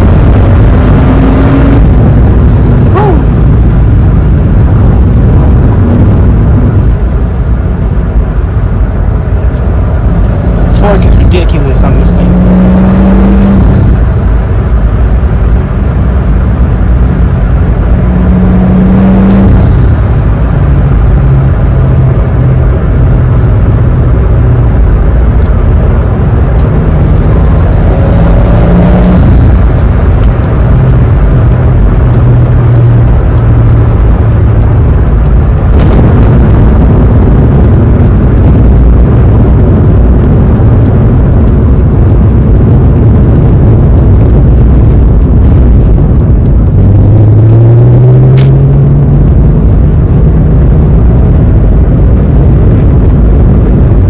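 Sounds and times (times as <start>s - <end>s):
car engine drone: 0.0s - 54.0s
road rumble: 0.0s - 54.0s.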